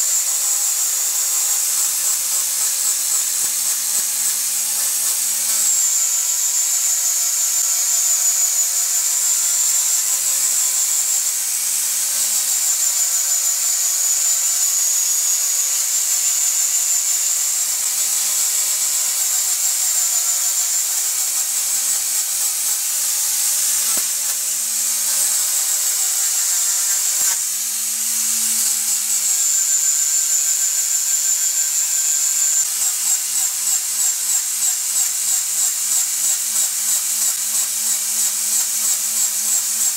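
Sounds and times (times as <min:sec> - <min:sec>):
angle grinder sanding wood: 0:00.0 - 0:37.0.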